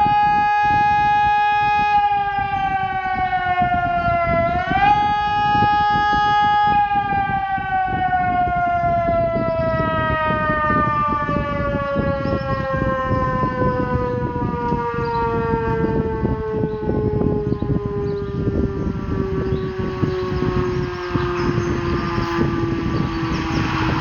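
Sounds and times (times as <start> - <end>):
siren winding down: 0.0 - 24.0.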